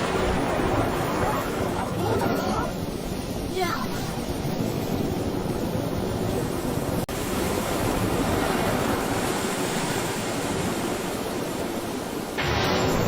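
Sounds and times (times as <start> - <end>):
rushing storm water: 0.0 - 13.0
wind: 0.0 - 13.0.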